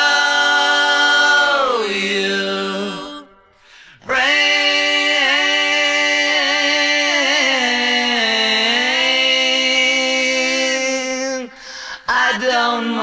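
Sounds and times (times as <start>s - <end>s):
men singing in harmony: 0.0s - 13.0s.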